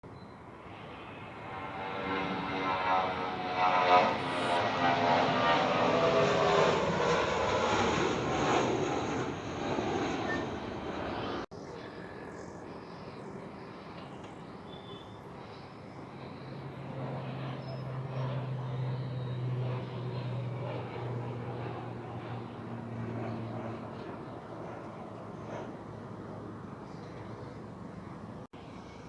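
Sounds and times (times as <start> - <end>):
aircraft engine rushing: 0.4 - 14.5, 15.2 - 29.0.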